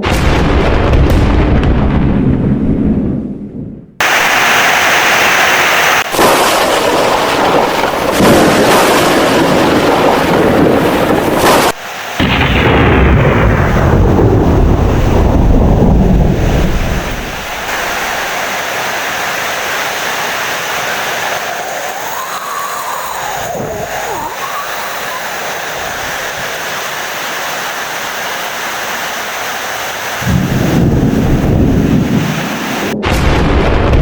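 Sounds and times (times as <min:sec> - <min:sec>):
rolling thunder: 0:00.0 - 0:04.3, 0:06.0 - 0:26.5, 0:30.2 - 0:34.0
heavy rain: 0:04.0 - 0:33.0.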